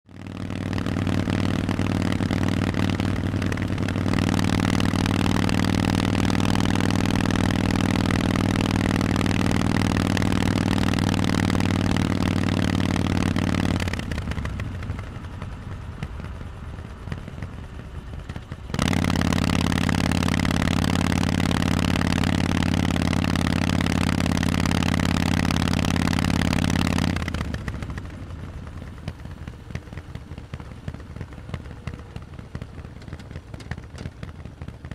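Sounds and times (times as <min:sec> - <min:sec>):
motorcycle engine running loud: 0:00.1 - 0:34.9.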